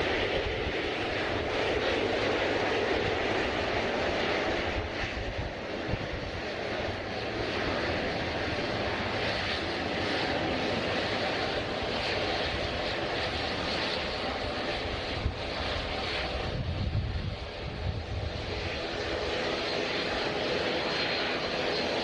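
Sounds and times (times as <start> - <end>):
airliner engines running: 0.0 - 22.0.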